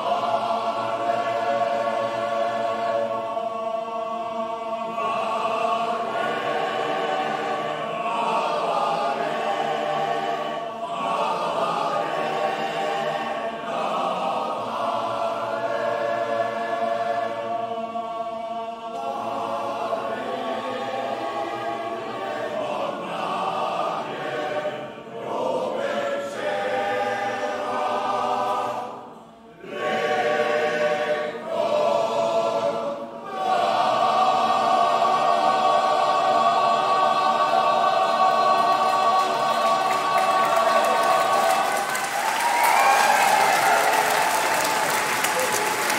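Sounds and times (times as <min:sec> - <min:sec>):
male choir singing in harmony: 0:00.0 - 0:45.9.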